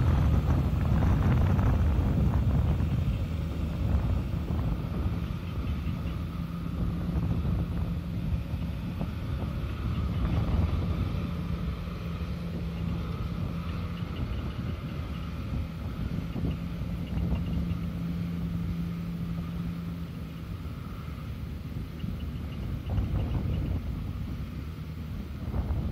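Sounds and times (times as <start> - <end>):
tractor engine droning: 0.0 - 25.9.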